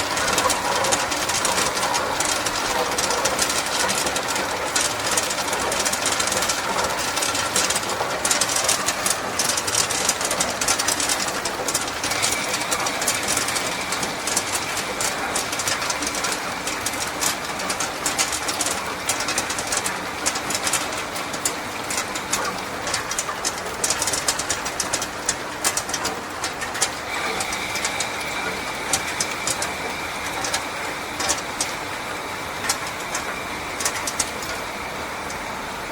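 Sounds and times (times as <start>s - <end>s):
ice clattering out of machine: 0.0s - 31.8s.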